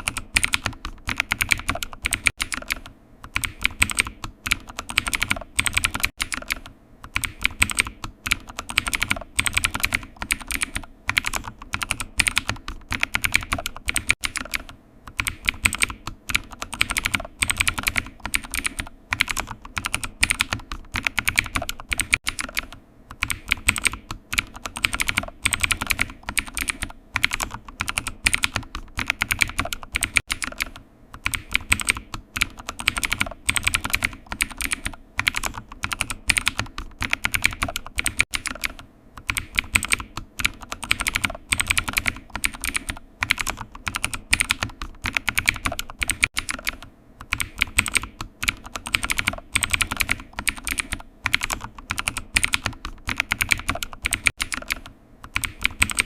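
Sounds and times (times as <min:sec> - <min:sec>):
keyboard typing: 0:00.0 - 0:56.0.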